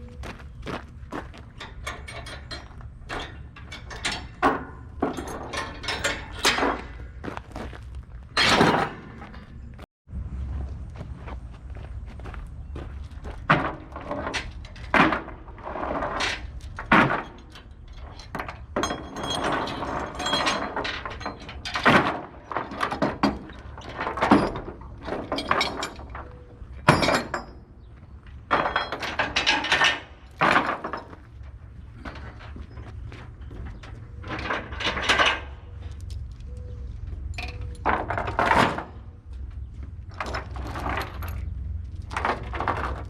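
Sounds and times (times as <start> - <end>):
metal clanking and scraping: 0.0 - 9.9, 12.7 - 43.0.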